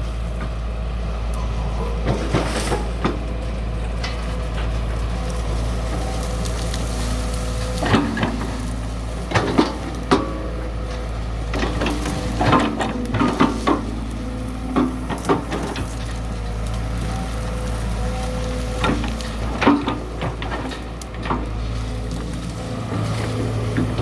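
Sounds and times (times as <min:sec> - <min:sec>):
diesel engine running: 0:00.0 - 0:24.0
bucket knocking and crunching earth: 0:04.4 - 0:24.0.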